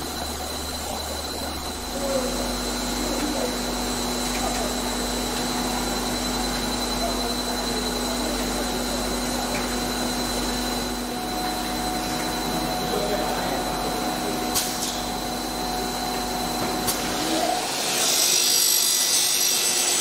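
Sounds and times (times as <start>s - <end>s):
second steady tone: 0.0s - 17.7s
constant high whine: 0.0s - 18.2s
machine motors and pumps humming: 0.0s - 20.0s.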